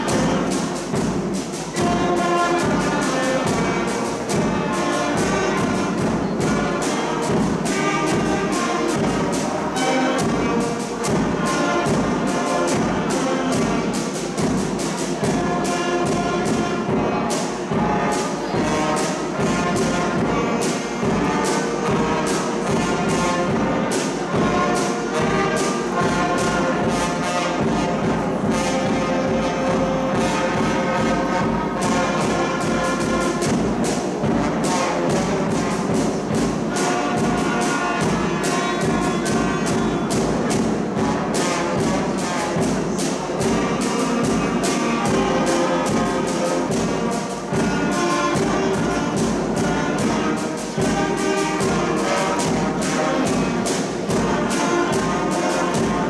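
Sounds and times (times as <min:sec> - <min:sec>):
percussion hits: 0:00.0 - 0:56.0
wind band playing chords: 0:00.0 - 0:56.0.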